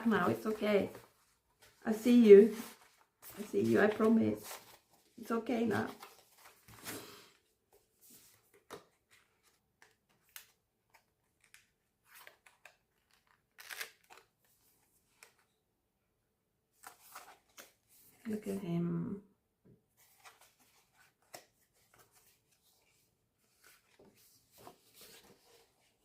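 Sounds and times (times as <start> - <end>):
paper and card rustling: 0.0 - 15.5, 16.8 - 18.5, 20.0 - 26.0.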